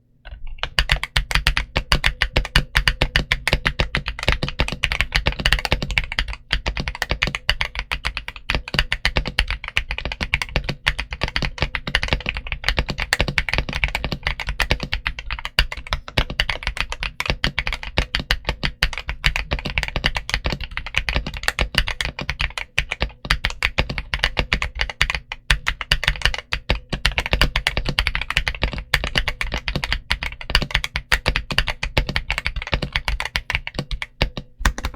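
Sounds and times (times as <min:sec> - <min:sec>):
mechanical keyboard typing: 0:00.3 - 0:34.9.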